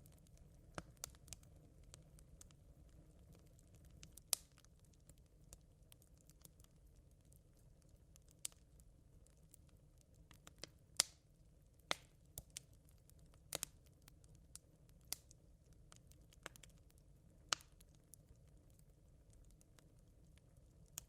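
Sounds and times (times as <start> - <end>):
campfire embers crackling: 0.0 - 21.0
low steady hiss: 0.0 - 21.0.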